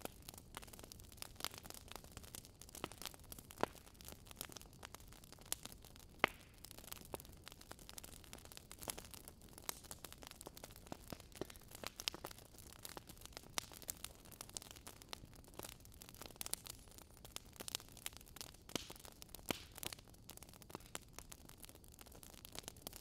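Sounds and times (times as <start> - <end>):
crackling clicks and pops: 0.0 - 23.0.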